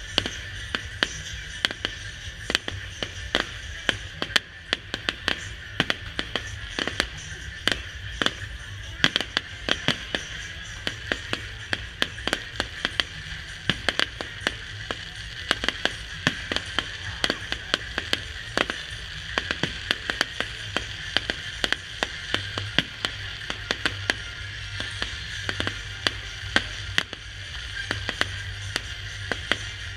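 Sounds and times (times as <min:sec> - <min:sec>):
fireworks popping and banging: 0:00.0 - 0:29.9.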